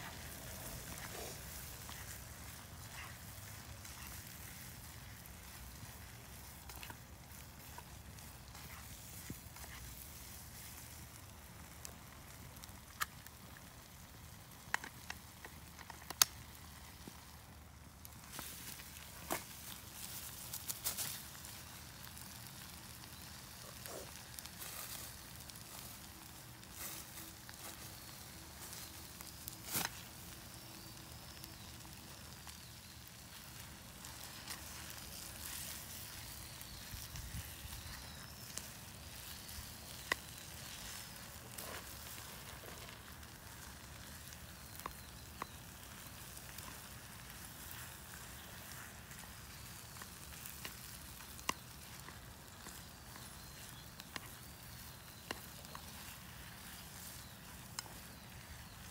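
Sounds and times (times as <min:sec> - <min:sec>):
campfire crackling: 0:00.0 - 0:58.9.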